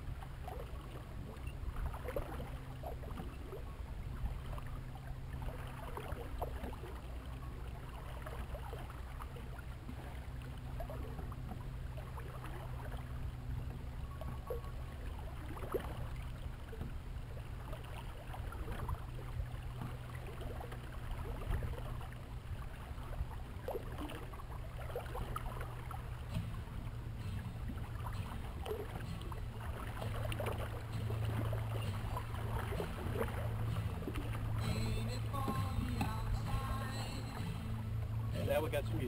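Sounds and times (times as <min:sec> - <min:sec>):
low hum: 0:00.0 - 0:39.0
water sloshing along a hull: 0:00.0 - 0:39.0.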